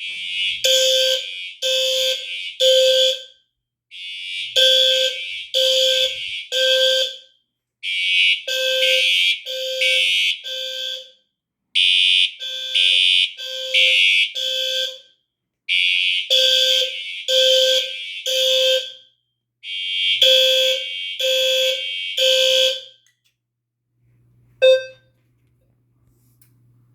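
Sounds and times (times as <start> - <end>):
fire alarm horn blasts: 0.0 - 23.2, 24.6 - 25.2.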